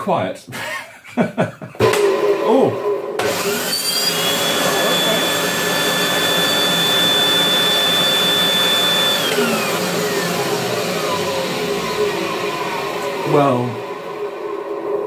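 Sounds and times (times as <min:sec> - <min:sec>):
vacuum cleaner motor whining: 0:01.8 - 0:15.0.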